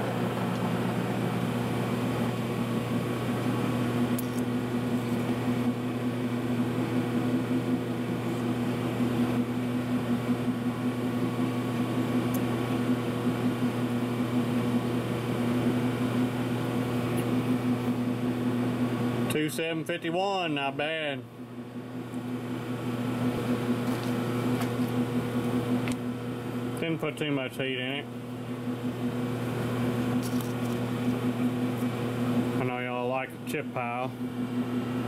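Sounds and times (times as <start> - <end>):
lathe motor humming: 0.0 - 27.2, 28.1 - 35.0.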